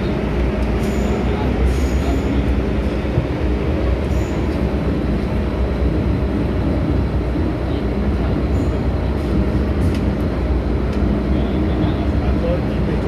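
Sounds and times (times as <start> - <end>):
train rumbling in tunnel: 0.0 - 13.0.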